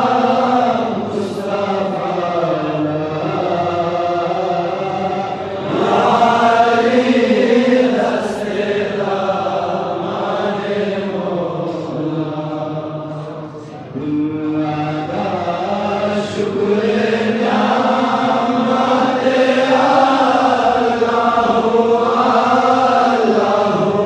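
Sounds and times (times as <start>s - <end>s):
unaccompanied devotional chanting: 0.0s - 24.0s.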